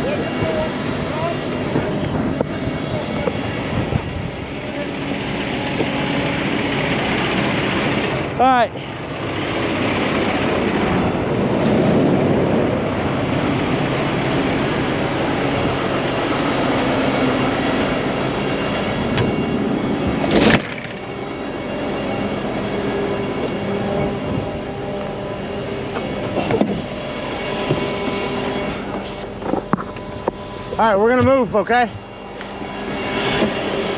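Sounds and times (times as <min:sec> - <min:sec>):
diesel truck engine running: 0:00.0 - 0:33.9.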